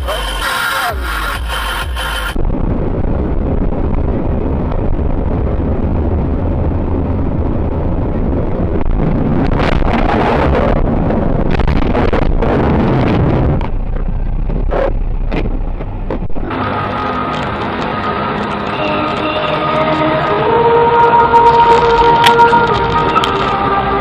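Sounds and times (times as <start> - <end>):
road and engine rumble: 0.0 - 24.0
rushing noise: 0.0 - 24.0.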